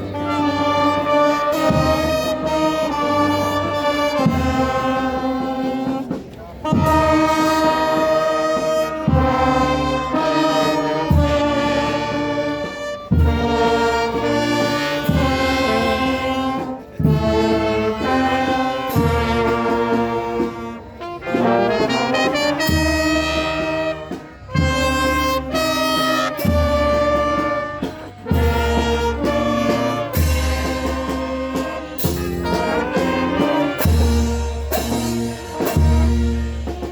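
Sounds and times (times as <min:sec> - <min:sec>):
brass band playing: 0:00.0 - 0:36.9.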